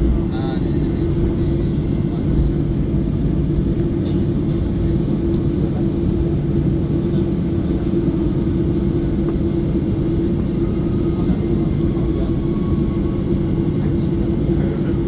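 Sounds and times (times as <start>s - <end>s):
jet engines droning in cabin: 0.0s - 15.0s.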